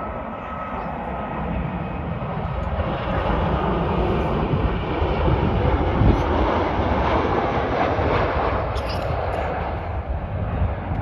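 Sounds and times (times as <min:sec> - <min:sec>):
jet airliner engine rushing: 0:00.0 - 0:11.0
jet rolling along runway: 0:00.0 - 0:11.0.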